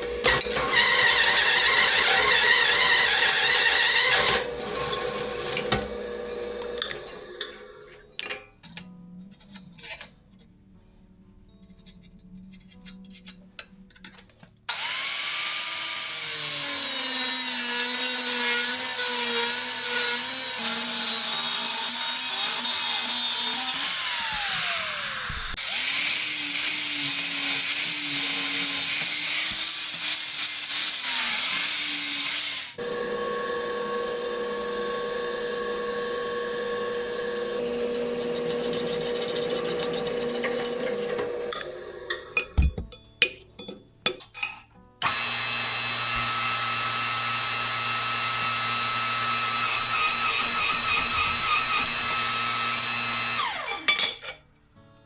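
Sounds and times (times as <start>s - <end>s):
power tool cutting steel: 0.0s - 7.9s, 14.7s - 42.4s, 45.0s - 54.3s.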